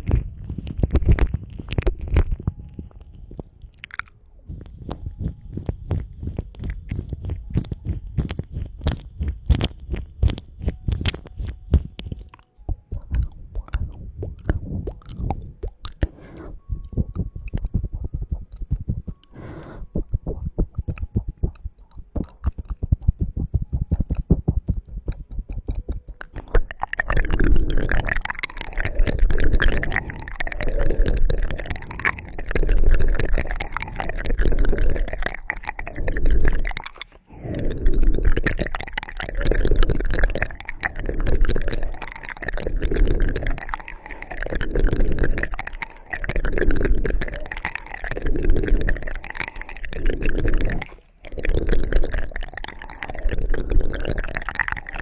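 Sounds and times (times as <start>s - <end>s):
rubbing and scratching on microphone: 0.0s - 3.8s, 4.4s - 55.0s
wet mouth clicks: 0.0s - 55.0s.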